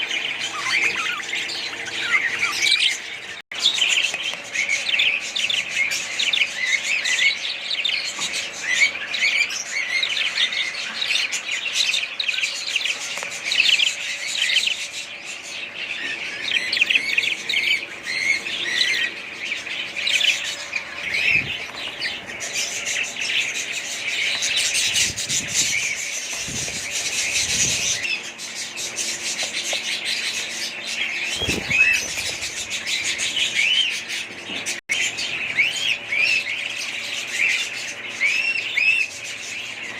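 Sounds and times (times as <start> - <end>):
small parrots chirping: 0.0 - 34.2.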